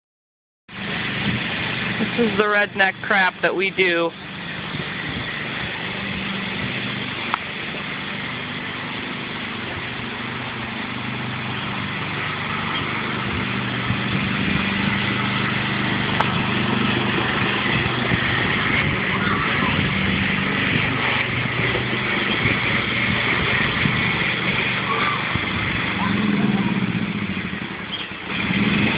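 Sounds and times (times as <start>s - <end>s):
tractor engine running: 0.7s - 28.9s.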